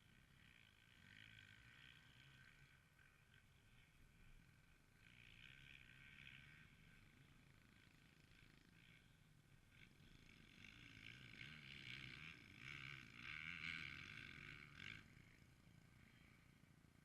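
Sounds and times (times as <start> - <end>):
motocross bike engine: 0.0 - 17.0.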